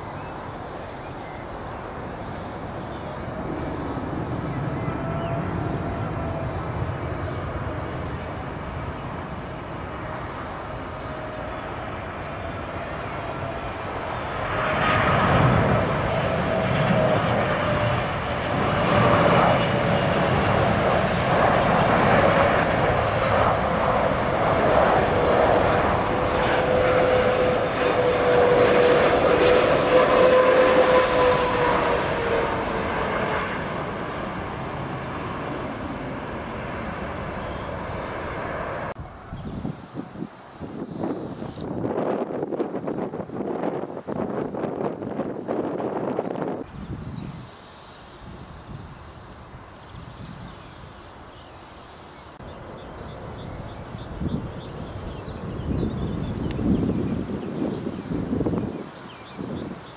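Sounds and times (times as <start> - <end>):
jet engine roar: 0.0 - 59.9
jet engine whine: 0.0 - 59.9.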